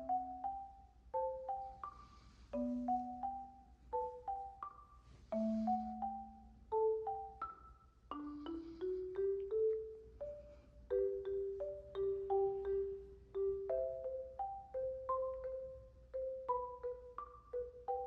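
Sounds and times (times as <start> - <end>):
gentle mallet percussion tune: 0.0 - 18.0.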